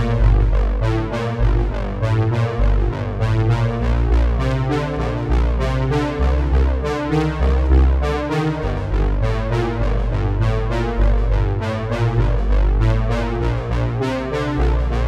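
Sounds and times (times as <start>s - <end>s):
electronic synthesizer music with beat: 0.0s - 15.0s.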